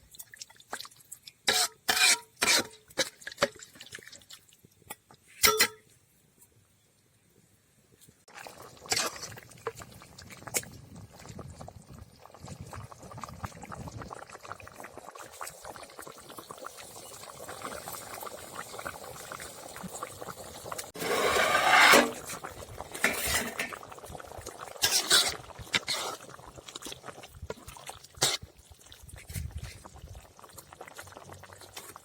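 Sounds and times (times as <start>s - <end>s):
gravy bubbling in a pot: 0.0s - 5.4s, 7.9s - 32.0s.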